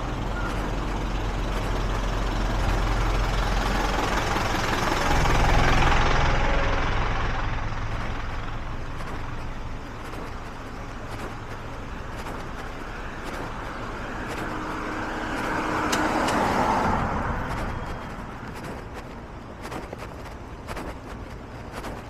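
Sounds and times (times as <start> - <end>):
truck engine idling: 0.0 - 21.7
rushing noise: 0.0 - 22.0.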